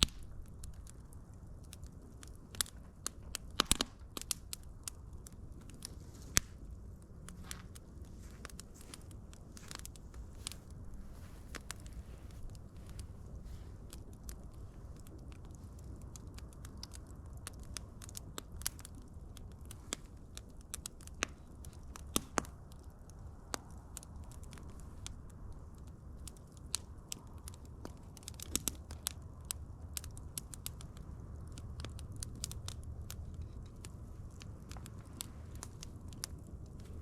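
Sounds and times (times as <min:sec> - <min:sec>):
low rumble of burning: 0:00.0 - 0:37.0
wood fire crackling and popping: 0:00.0 - 0:37.0.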